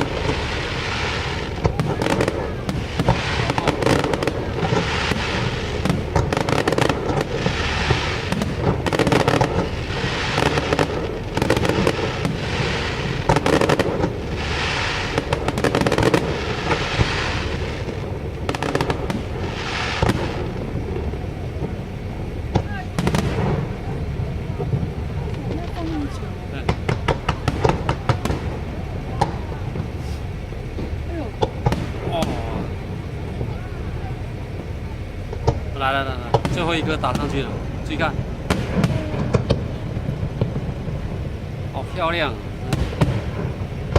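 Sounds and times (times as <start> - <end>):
crackling rumble: 0.0 - 43.9
firework shells bursting: 0.0 - 43.9.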